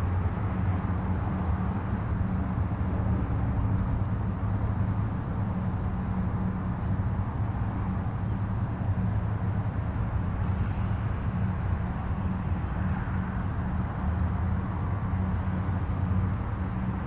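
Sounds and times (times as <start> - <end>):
distant highway traffic rumble: 0.0 - 17.0.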